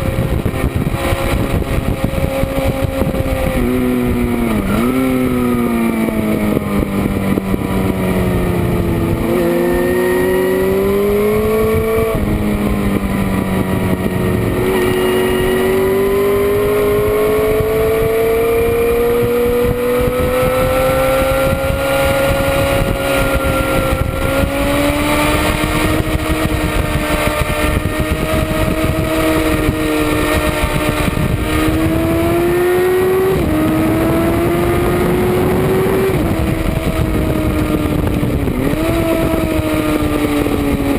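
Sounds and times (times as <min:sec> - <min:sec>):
motorcycle engine revving at speed: 0:00.0 - 0:40.9
wind rush: 0:00.0 - 0:40.9.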